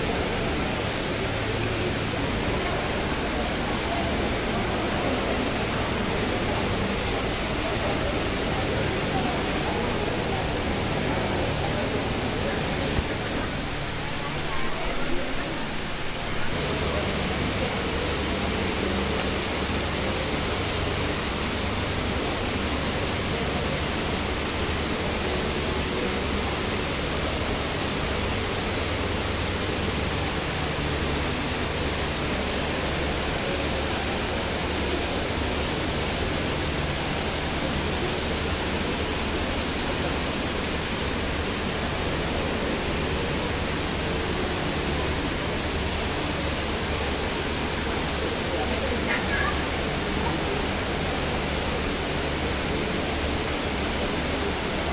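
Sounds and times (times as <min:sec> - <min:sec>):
waterfall rushing into pool: 0:00.0 - 0:54.9.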